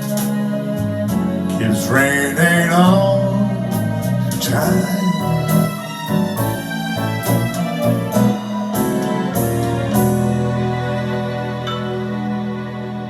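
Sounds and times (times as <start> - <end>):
electric keyboard chords: 0.0 - 13.0.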